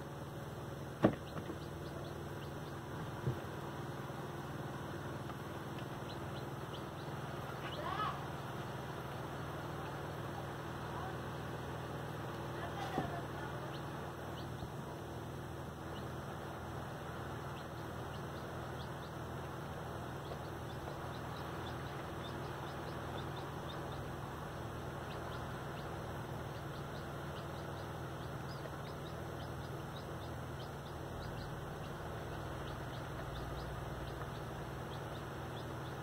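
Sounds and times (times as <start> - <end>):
baby chicks peeping: 0.0 - 36.0.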